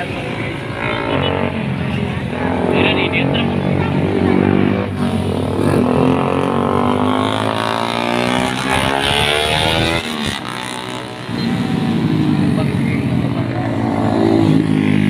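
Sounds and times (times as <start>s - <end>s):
motorcycle engines passing by: 0.0s - 15.0s.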